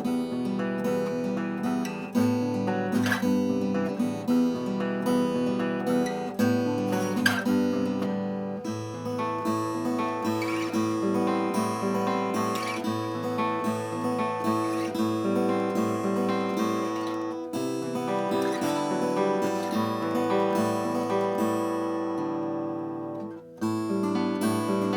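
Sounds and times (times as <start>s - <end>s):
acoustic guitar playing: 0.0s - 24.9s.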